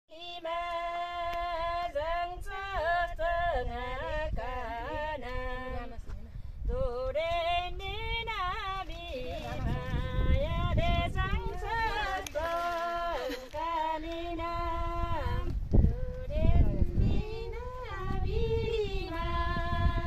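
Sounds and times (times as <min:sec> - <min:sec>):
women singing unaccompanied: 0:00.1 - 0:20.0.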